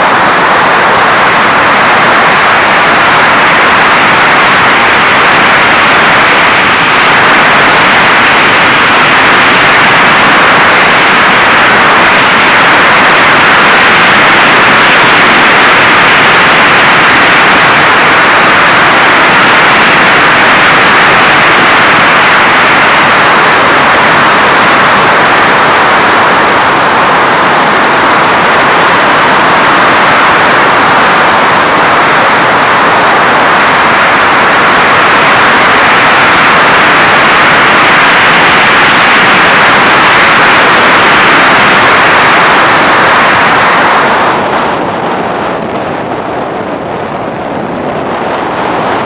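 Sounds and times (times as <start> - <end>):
airstream and propeller rushing: 0.0 - 46.9.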